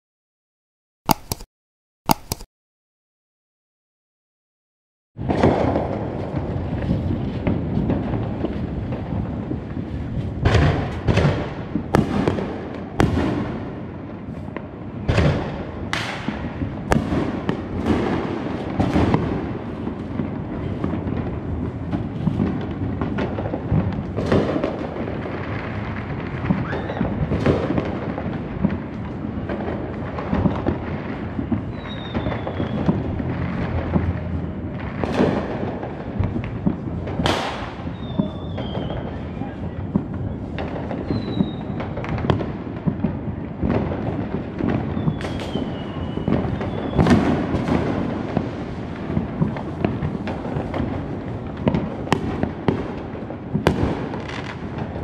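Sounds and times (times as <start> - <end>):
distant fireworks rumble and crackle: 5.2 - 55.0
fireworks sharp bangs: 5.2 - 55.0.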